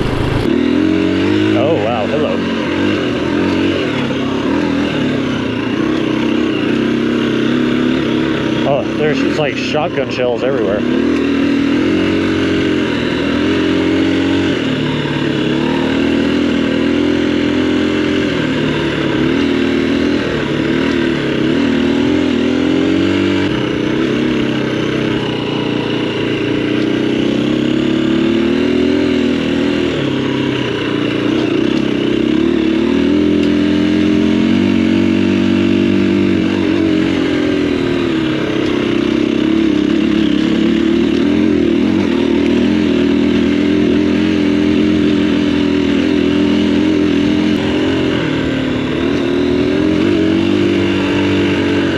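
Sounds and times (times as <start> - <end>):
motorcycle revving: 0.0 - 51.9.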